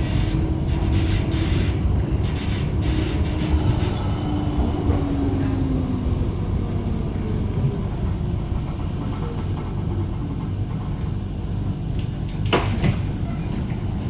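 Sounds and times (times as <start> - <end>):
faint whine of tram drive: 0.0 - 14.0
tram wheels rumbling on track: 0.0 - 14.0.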